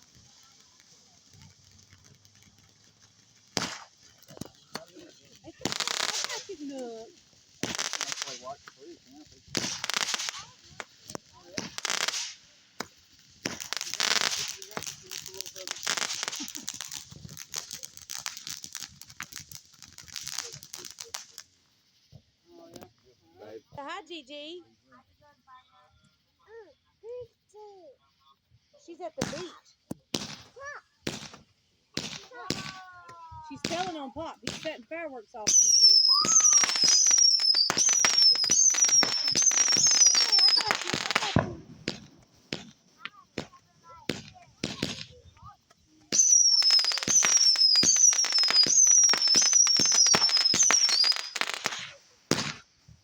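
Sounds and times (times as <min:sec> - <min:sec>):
fireworks crackling: 0:00.0 - 0:53.0.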